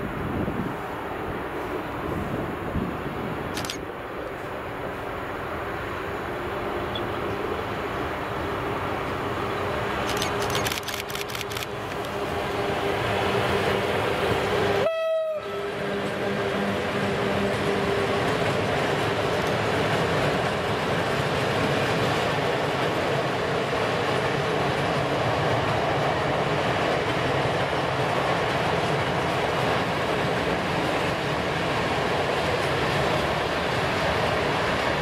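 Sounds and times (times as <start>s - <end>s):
freight train rolling on rails: 0.0s - 35.0s.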